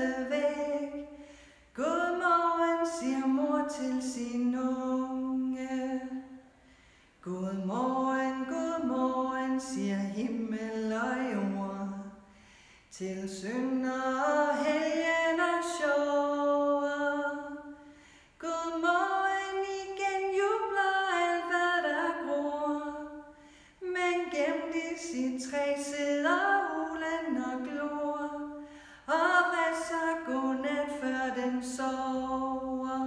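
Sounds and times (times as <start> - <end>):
woman singing unaccompanied: 0.0 - 1.2, 1.8 - 6.3, 7.2 - 12.2, 13.0 - 17.8, 18.4 - 33.0.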